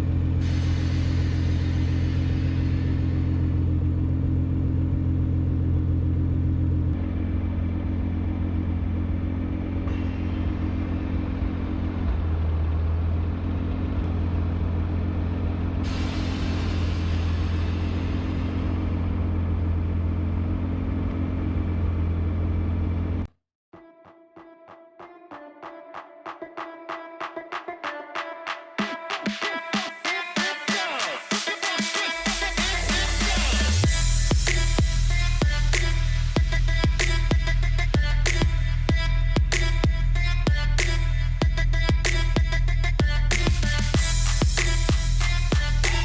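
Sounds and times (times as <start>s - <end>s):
car engine idling: 0.0s - 23.3s, 32.2s - 46.0s.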